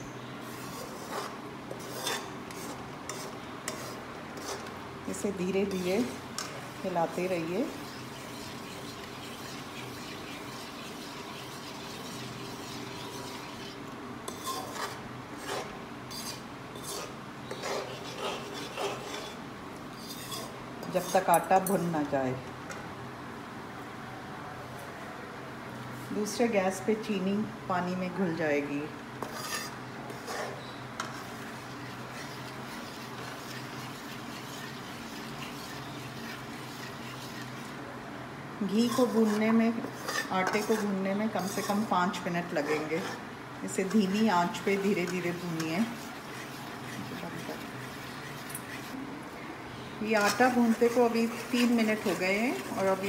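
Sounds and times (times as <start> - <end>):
low kitchen hiss: 0.0 - 24.0, 25.5 - 53.0
spoon scraping a metal pan: 0.4 - 22.0, 29.2 - 37.8, 38.6 - 49.0, 50.0 - 53.0.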